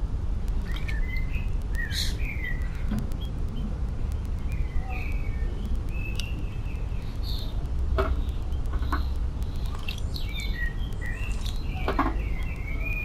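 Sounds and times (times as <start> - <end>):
steady low rumble: 0.0 - 13.0
birds chirping: 0.5 - 13.0.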